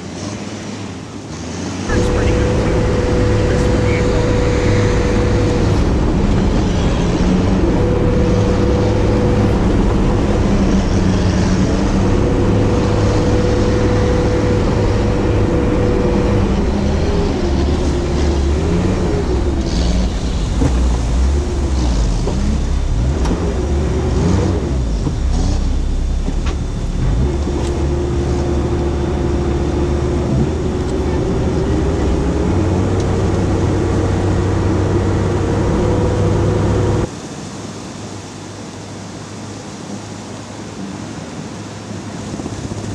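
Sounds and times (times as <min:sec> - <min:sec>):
diesel engine running under load: 0:00.0 - 0:37.1
steady whine: 0:01.8 - 0:42.9.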